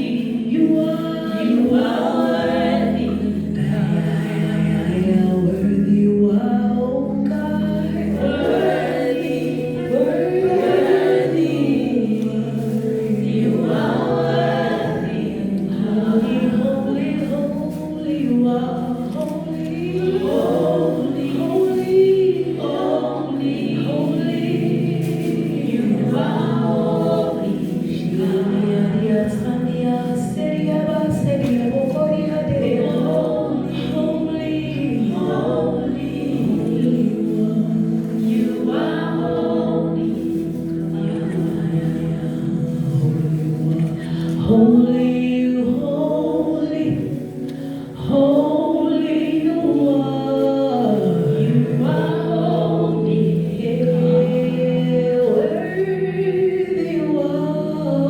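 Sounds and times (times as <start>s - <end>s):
choir singing in harmony: 0.0s - 58.0s
low sustained notes: 0.0s - 58.0s.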